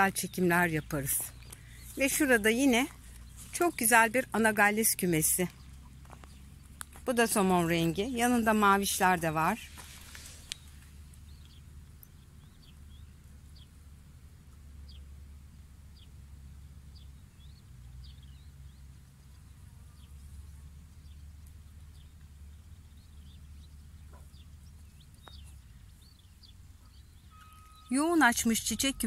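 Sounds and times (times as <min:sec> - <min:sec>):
low steady rumble: 0:00.0 - 0:29.0
small birds chirping: 0:00.0 - 0:29.0.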